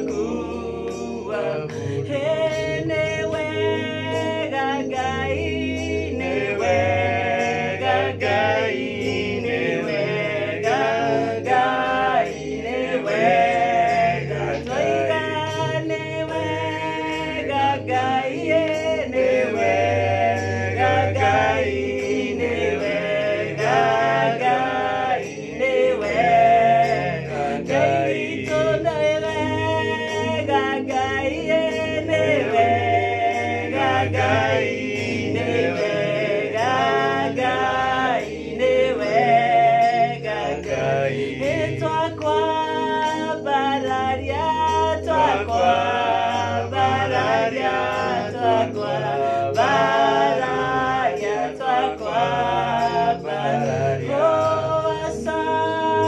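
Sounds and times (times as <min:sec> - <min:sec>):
low musical accompaniment: 0:00.0 - 0:56.0
voices singing gospel song: 0:00.0 - 0:56.0.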